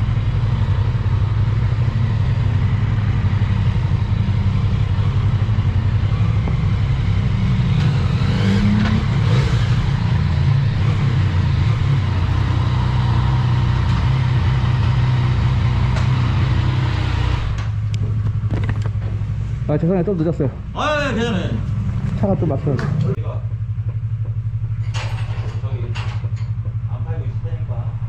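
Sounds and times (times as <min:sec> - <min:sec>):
motorcycle engine: 0:00.0 - 0:28.0.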